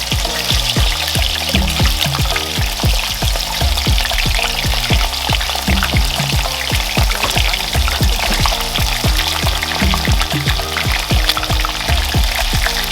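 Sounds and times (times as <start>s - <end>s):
afrobeat background music: 0.0s - 12.9s
chicken frying in hot oil: 0.0s - 12.9s.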